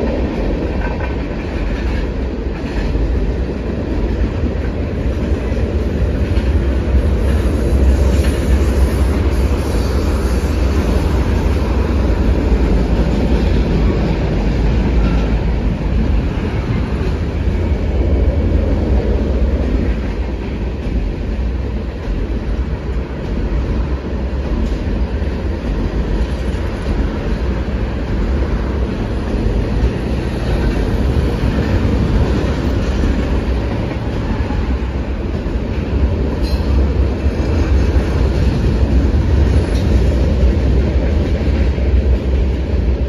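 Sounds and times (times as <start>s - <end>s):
steel wheels on rail and bridge: 0.0s - 43.0s.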